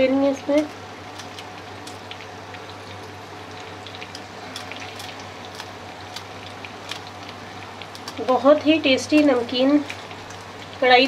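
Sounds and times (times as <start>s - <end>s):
meat sizzling in fat: 0.0s - 11.0s.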